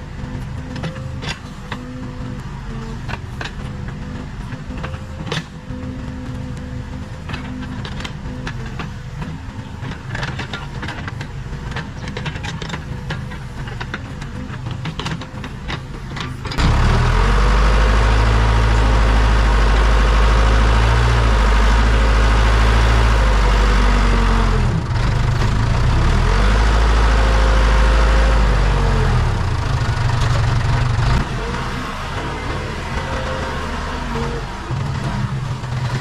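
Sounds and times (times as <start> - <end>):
backhoe diesel engine working: 0.0 - 36.0.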